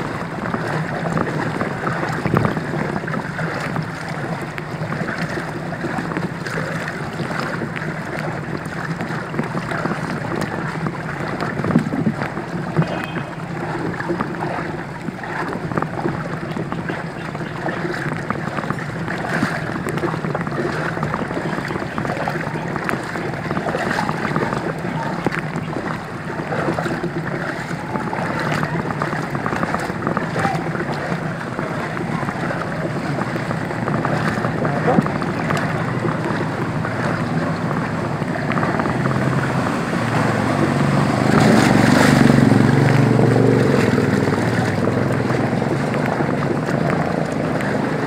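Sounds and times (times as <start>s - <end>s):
floodwater splashing and sloshing: 0.0s - 48.0s.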